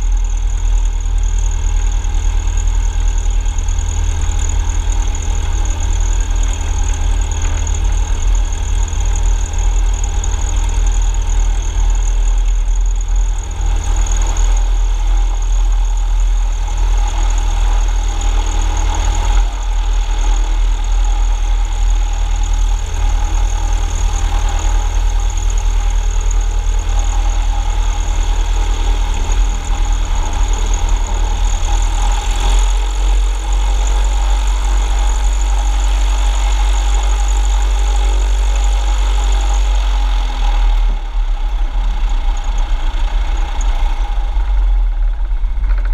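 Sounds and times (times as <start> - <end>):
propeller plane engine running: 0.0 - 45.9.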